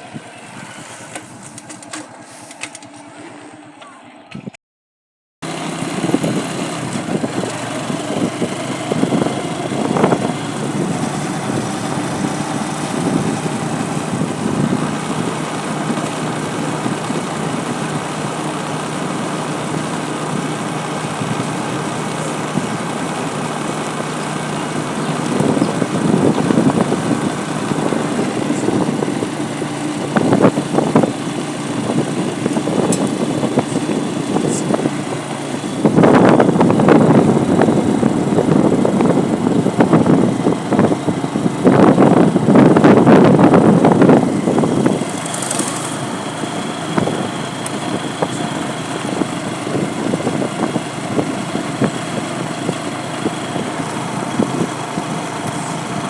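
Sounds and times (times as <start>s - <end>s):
vehicle engine running: 0.0s - 4.6s, 5.4s - 56.0s.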